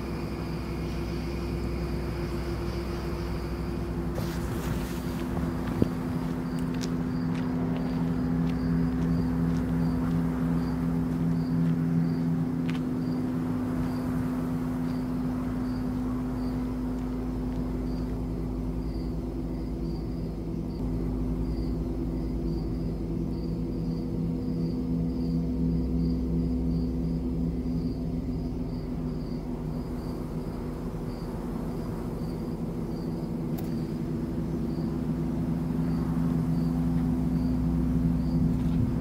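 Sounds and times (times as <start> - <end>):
cricket chirps: 0.0 - 39.0
low drone of held tones: 0.0 - 39.0.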